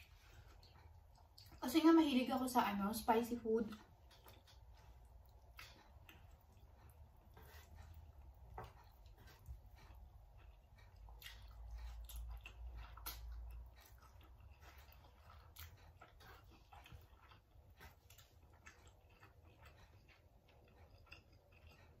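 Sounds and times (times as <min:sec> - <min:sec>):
chewing noodles: 0:00.0 - 0:01.9, 0:02.9 - 0:22.0.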